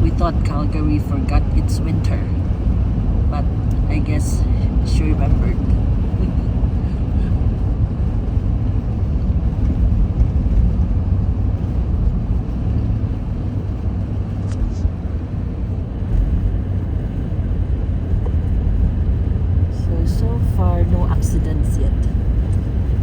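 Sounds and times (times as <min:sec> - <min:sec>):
car interior road rumble: 0:00.0 - 0:23.0.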